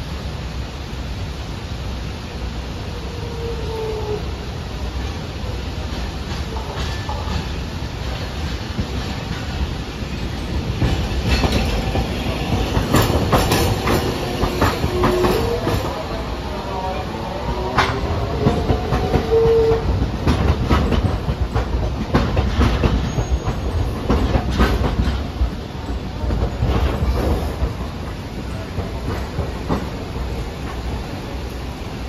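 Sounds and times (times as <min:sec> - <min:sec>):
tram rumbling past: 0:00.0 - 0:32.0
wheels clacking on rails: 0:03.1 - 0:32.0.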